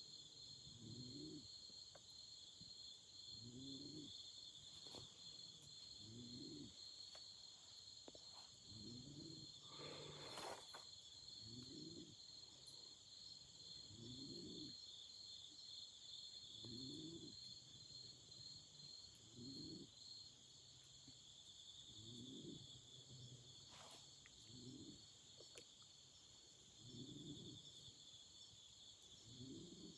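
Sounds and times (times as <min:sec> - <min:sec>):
crickets chirring: 0:00.1 - 0:29.9.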